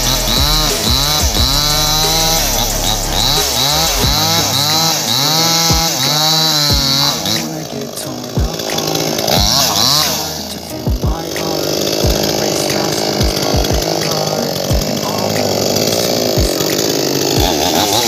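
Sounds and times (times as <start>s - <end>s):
chainsaw cutting into stump: 0.0s - 18.0s.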